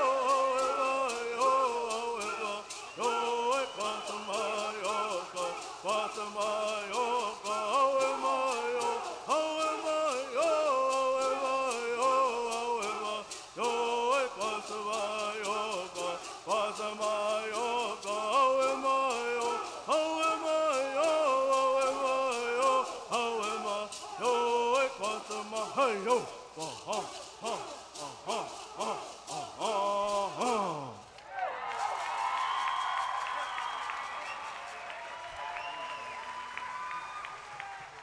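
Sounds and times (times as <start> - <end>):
men chanting in unison: 0.0 - 31.1
gourd rattles shaken: 0.0 - 36.1.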